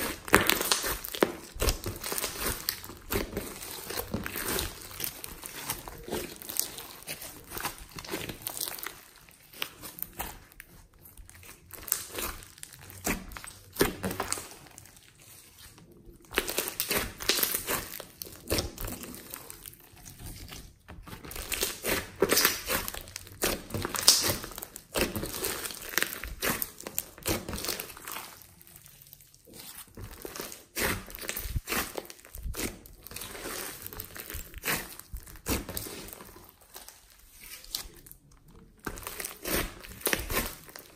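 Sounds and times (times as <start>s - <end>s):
sticky slime clicks and crackles: 0.0s - 14.9s, 16.2s - 20.3s, 21.1s - 40.9s.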